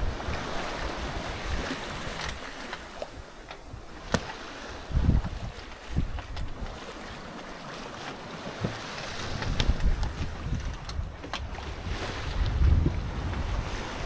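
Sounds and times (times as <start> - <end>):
wind buffeting microphone: 0.0 - 7.1, 8.4 - 14.0
water rushing along a hull: 0.0 - 14.0.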